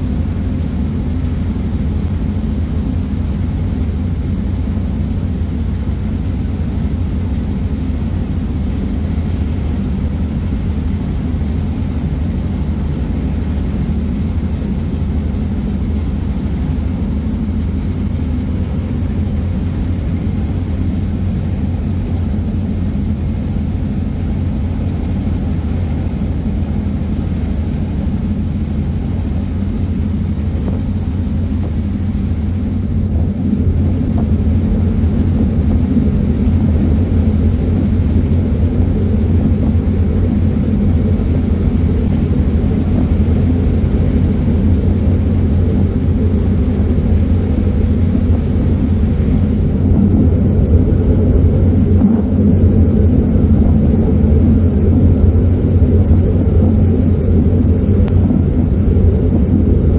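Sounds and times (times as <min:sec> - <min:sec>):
ferry engines droning: 0:00.0 - 0:59.9.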